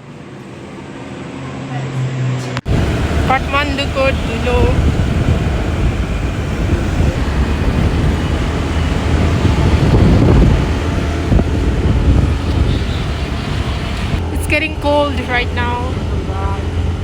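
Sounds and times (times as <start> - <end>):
vehicle road noise rumble: 0.0 - 17.0
wind buffeting microphone: 2.5 - 17.0.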